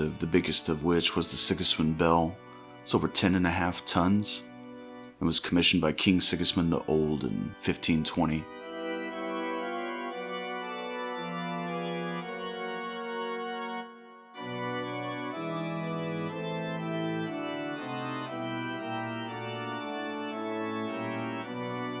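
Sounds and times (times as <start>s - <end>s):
organ playing held chords: 0.0s - 22.0s.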